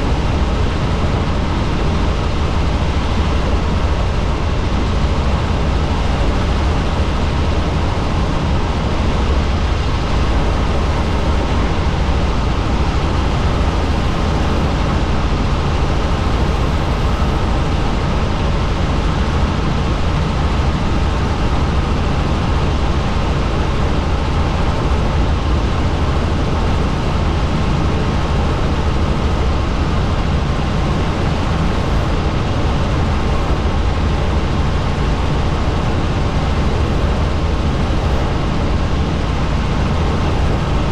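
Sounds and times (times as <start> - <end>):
helicopter in flight: 0.0 - 40.9.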